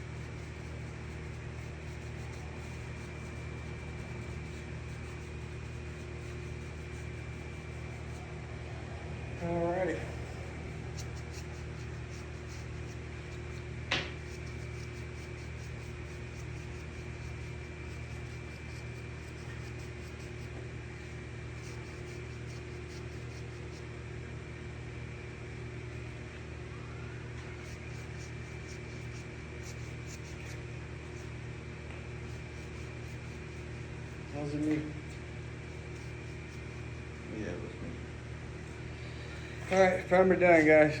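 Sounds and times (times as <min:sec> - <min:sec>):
machine humming: 0:00.0 - 0:41.0.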